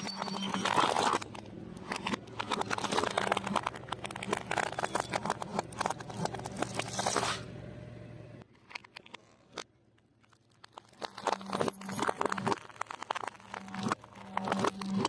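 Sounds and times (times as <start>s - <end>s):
crunching crispy food: 0.0s - 7.4s, 8.5s - 15.0s.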